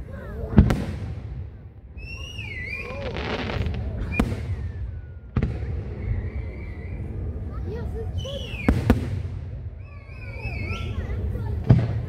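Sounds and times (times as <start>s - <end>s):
fireworks bursting: 0.4s - 12.0s.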